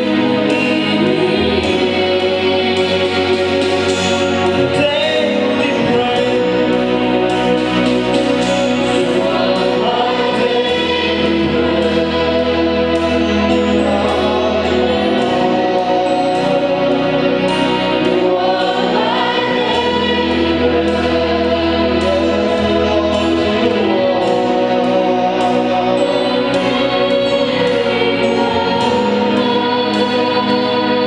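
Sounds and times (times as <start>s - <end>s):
congregation singing a worship song: 0.0s - 31.0s
instrumental backing with bass: 0.0s - 31.0s.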